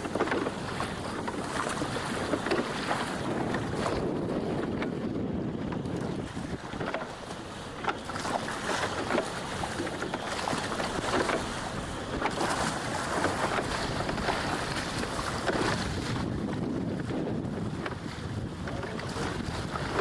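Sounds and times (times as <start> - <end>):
water splashing against hull: 0.0 - 20.0
wind buffeting microphone: 0.0 - 20.0.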